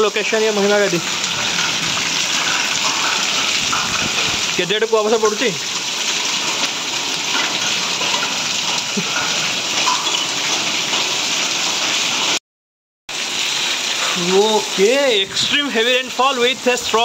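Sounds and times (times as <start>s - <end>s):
heavy rain and hail on concrete: 0.0s - 12.4s, 13.1s - 17.0s.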